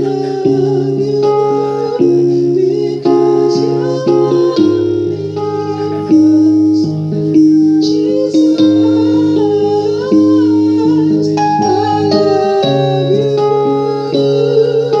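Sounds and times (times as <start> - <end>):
faint singing voice: 0.0 - 15.0
plucked guitar: 0.0 - 15.0
sustained worship music chords: 0.0 - 15.0.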